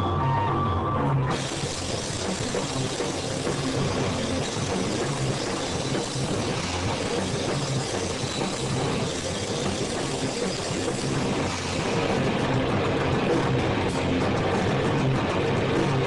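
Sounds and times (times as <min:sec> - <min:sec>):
loud live rock band: 0:00.0 - 0:16.0.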